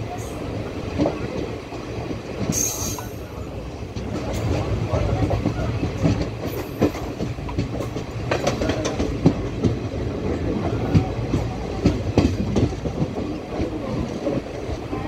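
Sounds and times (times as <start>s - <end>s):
train wheels rumbling on rail: 0.0s - 15.0s
wheels clanking over rail joints: 0.0s - 15.0s.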